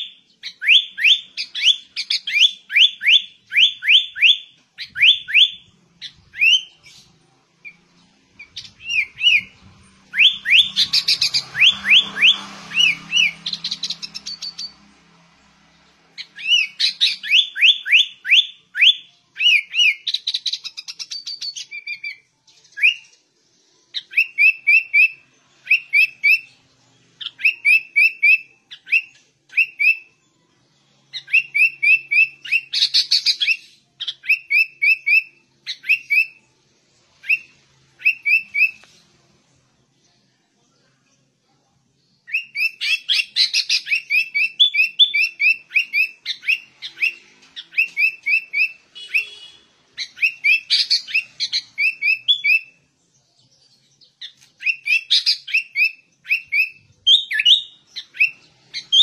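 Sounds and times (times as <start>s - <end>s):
bird singing whistled notes: 0.0s - 14.9s, 16.2s - 26.6s, 27.2s - 30.2s, 31.1s - 36.6s, 37.2s - 39.0s, 42.1s - 59.0s.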